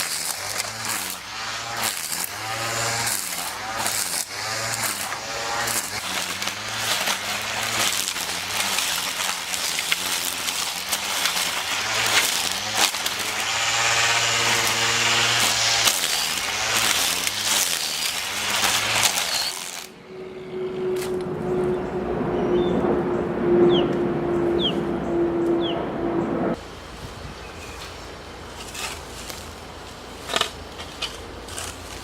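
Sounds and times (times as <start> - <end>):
string trimmer cutting brush: 0.0 - 21.8, 27.6 - 32.0.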